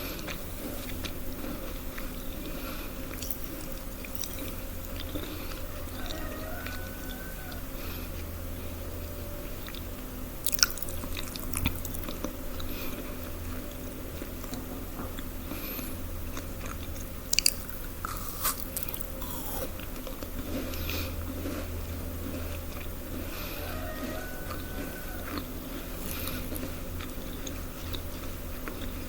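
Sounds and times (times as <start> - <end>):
crunchy food chewing: 0.0 - 29.0
low hum: 0.0 - 29.0.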